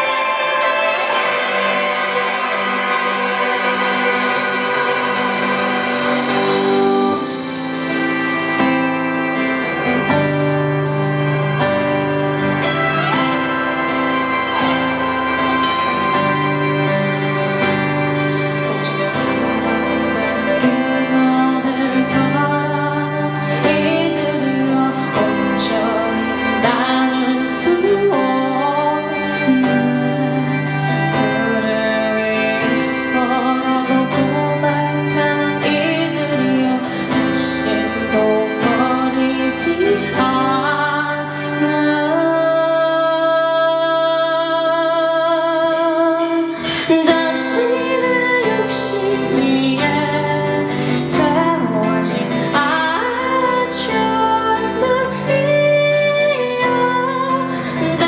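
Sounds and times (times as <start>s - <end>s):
live band playing: 0.0s - 43.7s, 44.5s - 58.0s.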